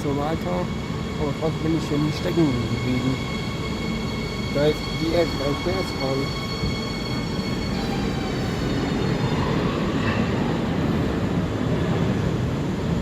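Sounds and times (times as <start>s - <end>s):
high whining train tones: 0.0s - 13.0s
train wheels rumbling on rail: 0.0s - 13.0s.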